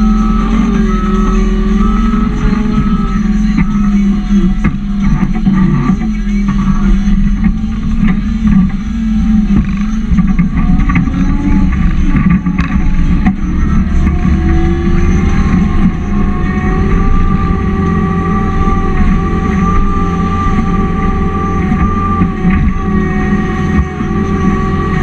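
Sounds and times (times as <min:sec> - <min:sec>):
diesel engine running loud: 0:00.0 - 0:25.0
thin whine: 0:00.0 - 0:25.0.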